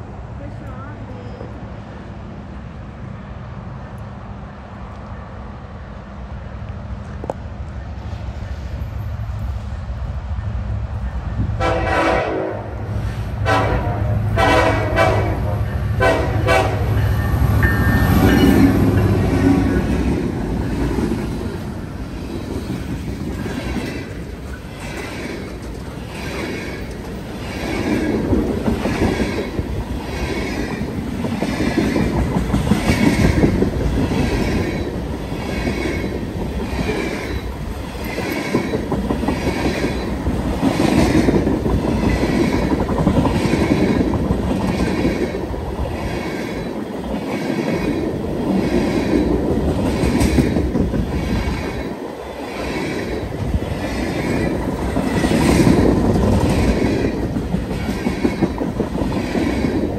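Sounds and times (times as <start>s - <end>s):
train wheels rumbling on rail: 0.0s - 59.9s
clickety-clack of rail joints: 6.6s - 9.6s, 14.4s - 59.9s.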